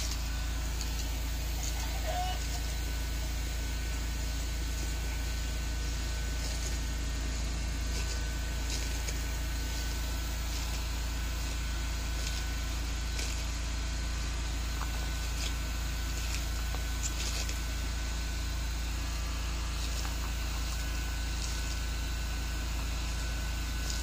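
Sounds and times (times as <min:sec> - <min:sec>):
steady low hum: 0:00.0 - 0:24.0
tortoise crunching lettuce: 0:00.0 - 0:24.0.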